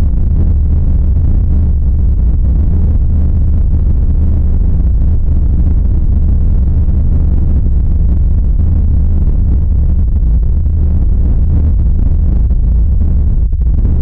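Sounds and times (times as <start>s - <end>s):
deep drone: 0.0s - 14.0s.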